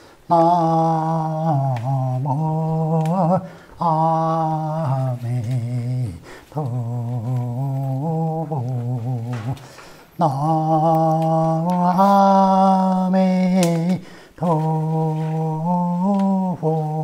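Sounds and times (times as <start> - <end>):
person chanting slowly: 0.0 - 17.0.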